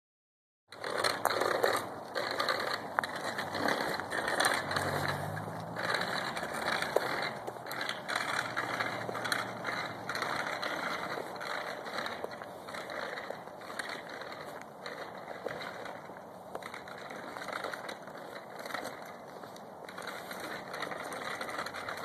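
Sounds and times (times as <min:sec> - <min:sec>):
bicycle wheels rattling on grit: 0:00.7 - 0:22.0
footsteps on gritty asphalt: 0:00.7 - 0:22.0.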